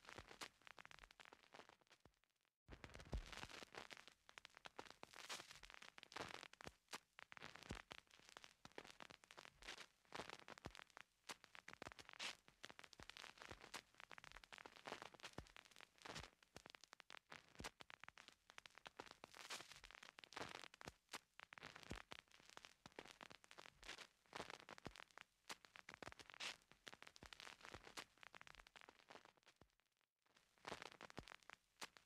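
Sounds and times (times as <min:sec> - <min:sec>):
faint irregular crackling: 0:02.7 - 0:29.7, 0:30.3 - 0:32.0.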